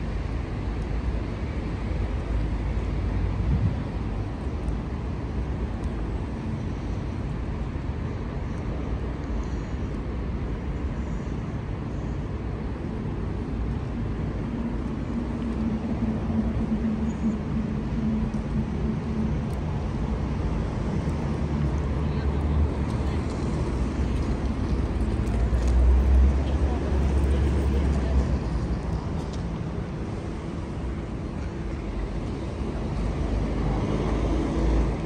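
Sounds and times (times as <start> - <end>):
city street rumble: 0.0 - 35.0
idling tram hum: 0.0 - 35.0.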